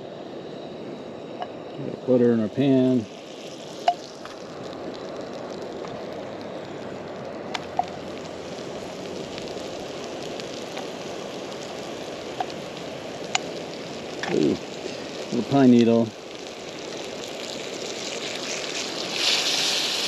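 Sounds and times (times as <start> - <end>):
butter sizzling in a frying pan: 0.0 - 20.0.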